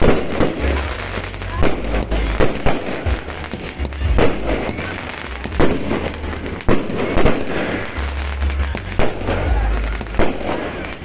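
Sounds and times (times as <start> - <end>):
fireworks booming: 0.0 - 11.0
fireworks crackling: 0.0 - 11.0.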